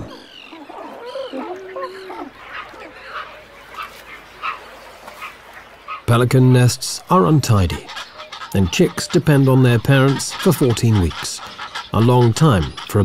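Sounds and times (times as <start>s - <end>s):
pelicans calling: 0.0s - 13.0s.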